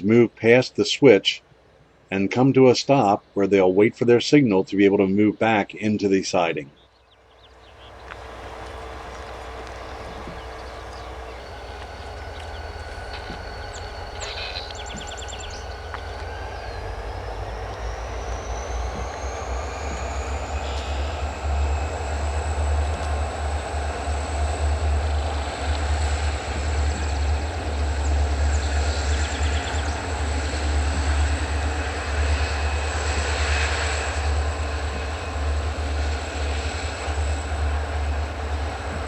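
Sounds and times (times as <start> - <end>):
diesel locomotives rumbling: 0.0 - 39.0
thin high whine: 7.4 - 39.0.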